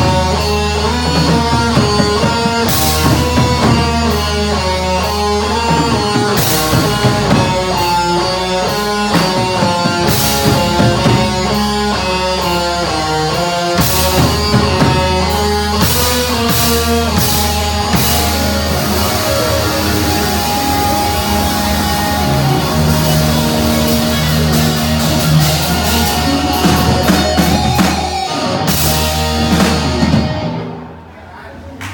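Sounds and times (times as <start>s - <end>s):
drum and cymbal hits: 0.0s - 30.5s
heavy metal band playing: 0.0s - 31.0s.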